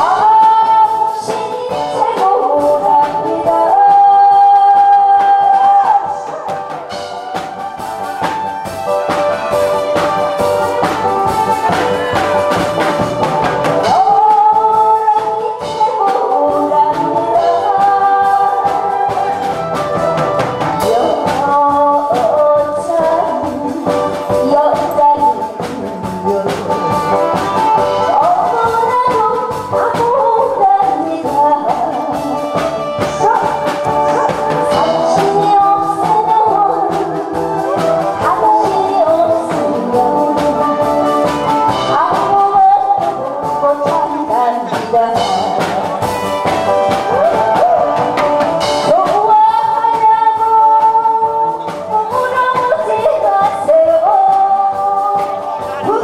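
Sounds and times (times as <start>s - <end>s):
woman singing into microphone: 0.0s - 8.4s, 13.4s - 56.0s
instrumental music with steady beat: 0.0s - 56.0s.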